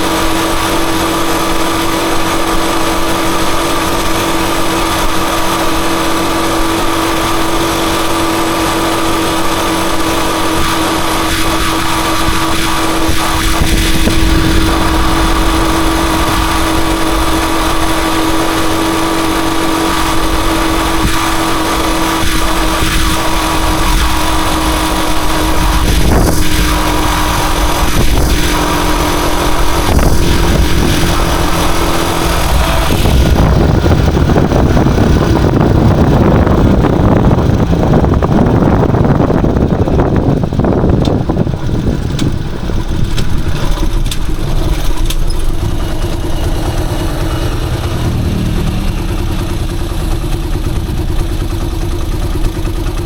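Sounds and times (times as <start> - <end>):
motorcycle engine droning: 0.0 - 53.0
wind noise on microphone: 0.0 - 53.0.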